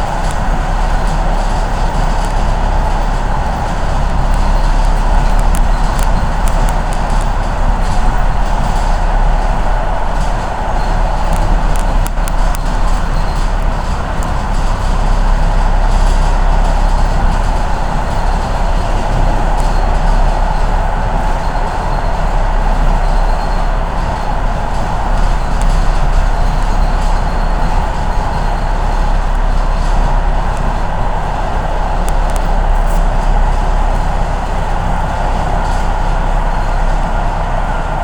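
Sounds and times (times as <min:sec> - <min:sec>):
train wheels and motors rumbling: 0:00.0 - 0:38.0.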